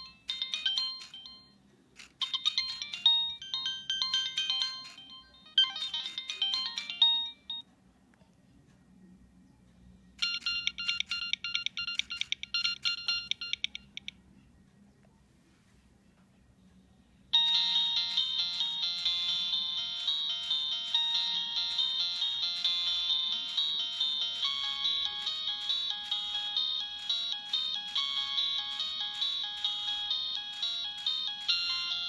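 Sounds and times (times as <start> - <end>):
ringtone of quick repeated notes: 0.0 - 1.6, 2.2 - 7.6, 10.2 - 14.2, 17.4 - 32.0
beeping ringtone melody: 0.0 - 7.6, 10.2 - 14.2, 17.4 - 32.0.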